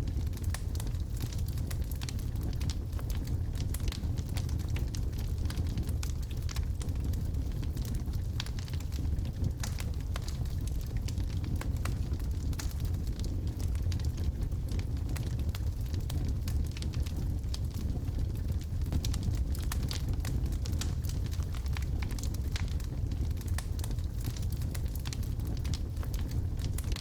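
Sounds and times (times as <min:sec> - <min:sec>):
burning wood crackling: 0:00.0 - 0:27.0
logs burning in fireplace: 0:00.0 - 0:27.0.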